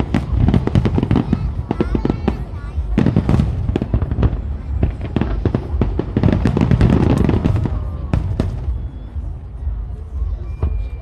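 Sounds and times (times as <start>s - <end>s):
fireworks crackling and booming: 0.0s - 11.0s.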